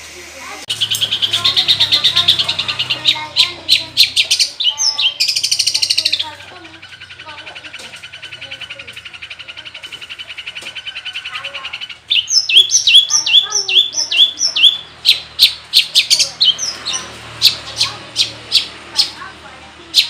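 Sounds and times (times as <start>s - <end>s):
bird singing trills and whistles: 0.7s - 19.2s.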